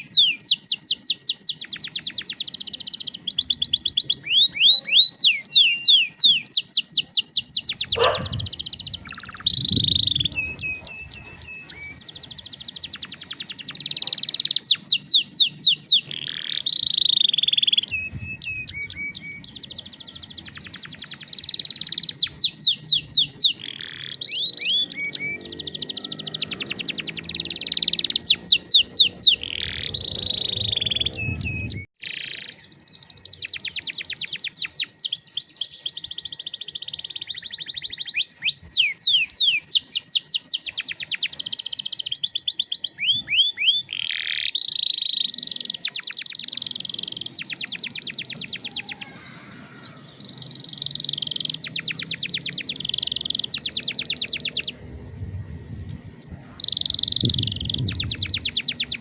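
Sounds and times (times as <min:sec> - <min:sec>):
canary singing trills: 0:00.0 - 0:54.9, 0:56.2 - 0:59.0.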